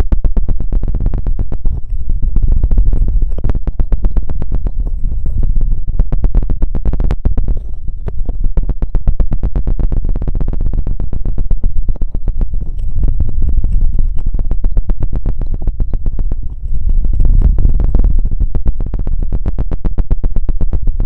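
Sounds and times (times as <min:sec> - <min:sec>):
scratching and knocking on microphone: 0:00.0 - 0:21.0.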